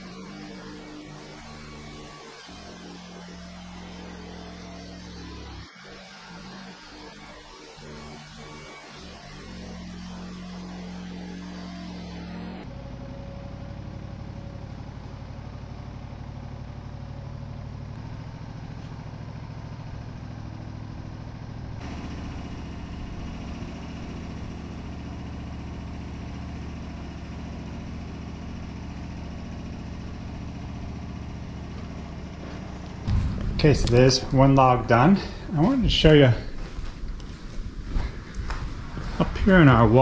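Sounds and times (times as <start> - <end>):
band sawmill engine running: 0.0 - 40.0.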